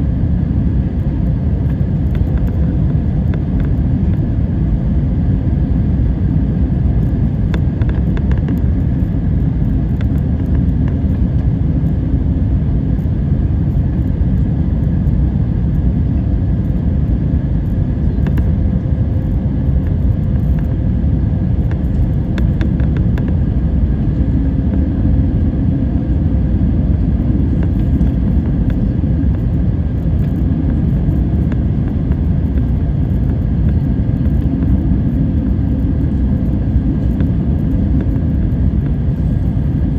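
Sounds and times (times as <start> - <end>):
airliner low rumble: 0.0 - 39.9.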